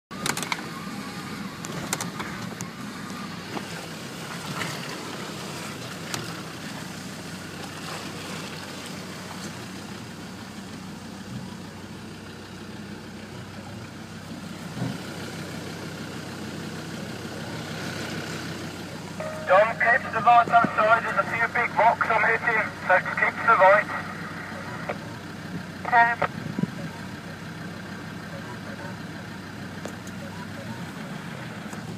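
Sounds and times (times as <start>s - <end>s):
vehicle engine at low revs: 0.1s - 31.9s.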